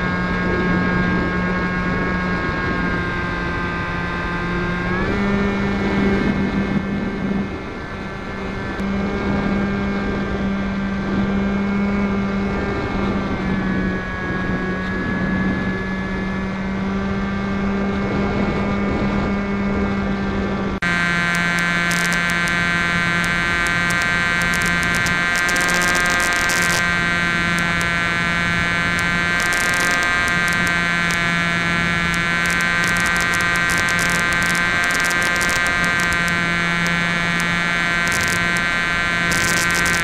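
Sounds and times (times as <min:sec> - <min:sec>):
model plane motor buzzing: 0:00.0 - 0:40.0
wind on microphone: 0:00.0 - 0:40.0.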